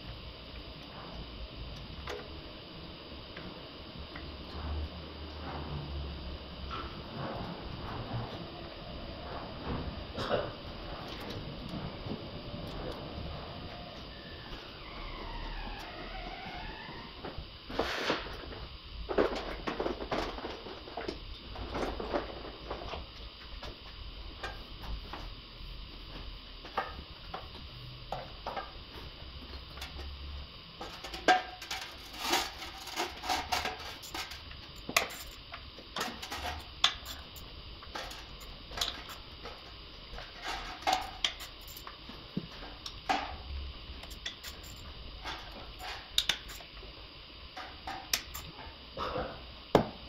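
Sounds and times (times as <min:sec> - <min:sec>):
workshop hum: 0:00.0 - 0:50.0.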